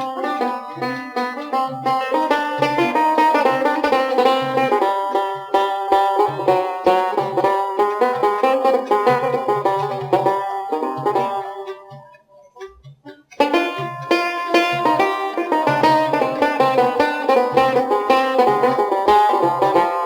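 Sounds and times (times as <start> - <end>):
banjo melody: 0.0 - 20.0
low regular beat: 0.0 - 20.0.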